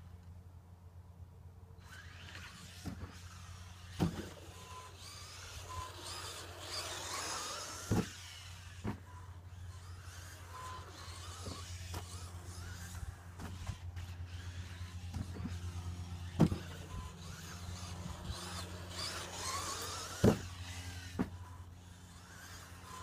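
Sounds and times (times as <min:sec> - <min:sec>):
electric toy car motor whine: 0:01.8 - 0:23.0
toy car hitting the track: 0:01.9 - 0:09.1, 0:09.9 - 0:21.4.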